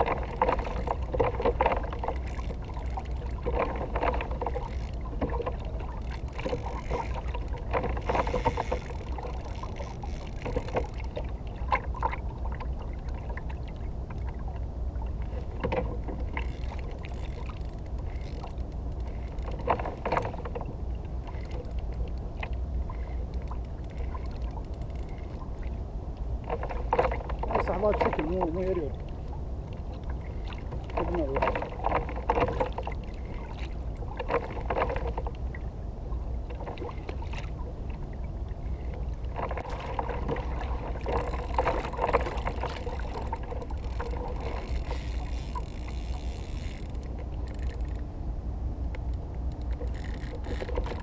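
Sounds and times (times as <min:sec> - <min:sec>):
wind and water rumble: 0:00.0 - 0:51.0.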